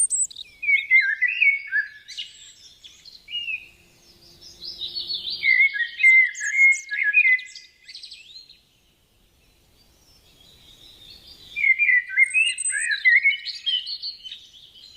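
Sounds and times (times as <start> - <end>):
songbird warbling: 0.0 - 3.7, 4.3 - 8.4, 10.2 - 14.9.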